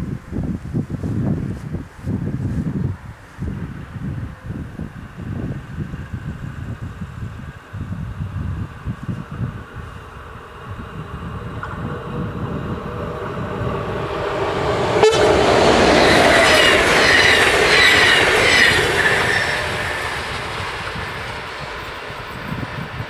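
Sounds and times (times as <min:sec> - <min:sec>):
train passing at speed: 0:02.5 - 0:23.0.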